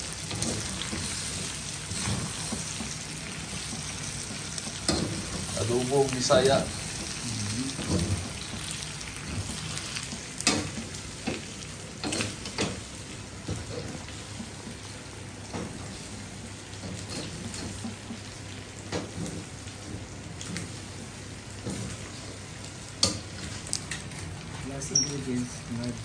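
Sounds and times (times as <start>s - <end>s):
meat sizzling in a wok: 0.0s - 26.0s.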